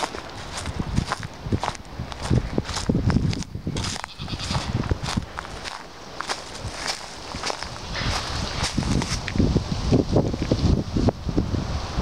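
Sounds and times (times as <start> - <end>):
footsteps crunching on twigs: 0.0 - 10.6
wind rumble on microphone: 0.0 - 12.0.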